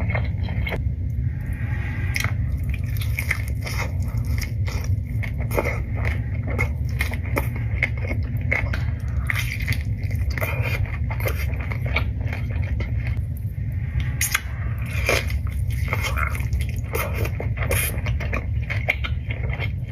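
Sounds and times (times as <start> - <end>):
low rumble: 0.0 - 19.9
chewing and crunching: 2.1 - 19.9.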